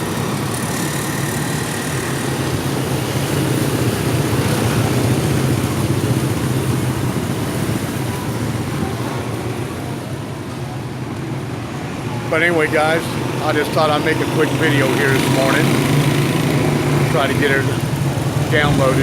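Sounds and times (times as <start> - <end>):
city street traffic: 0.0 - 19.0.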